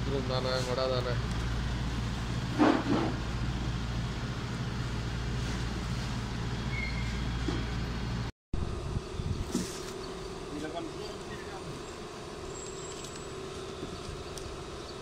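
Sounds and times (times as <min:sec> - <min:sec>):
low mechanical rumble and hum: 0:00.0 - 0:15.0.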